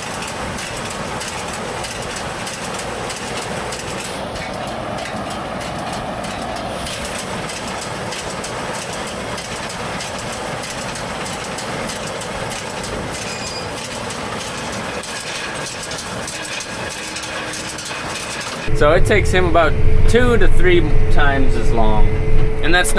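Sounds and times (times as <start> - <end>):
baler chains rattling: 0.0 - 18.7
tractor engine running: 0.0 - 22.9.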